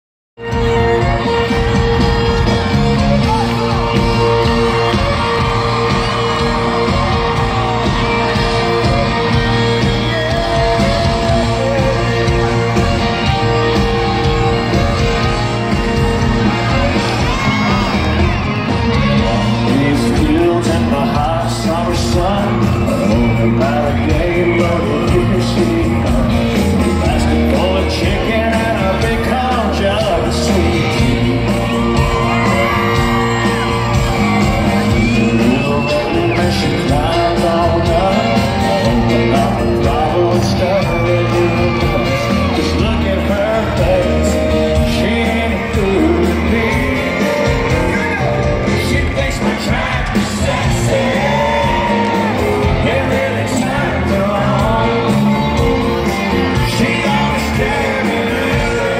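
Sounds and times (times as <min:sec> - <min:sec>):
audience shouting and whooping: 0:00.4 - 0:58.9
country-rock band playing: 0:00.4 - 0:58.9
man singing: 0:00.4 - 0:58.9.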